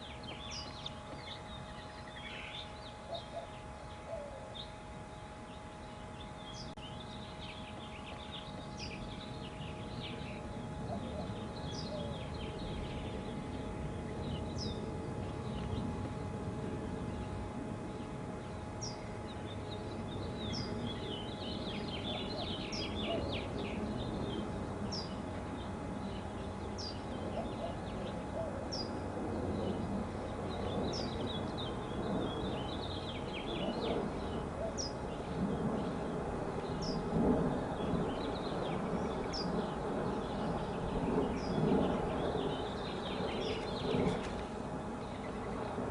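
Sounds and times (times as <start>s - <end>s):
faint steady hum: 0.0s - 45.9s
small birds chirping: 0.0s - 45.9s.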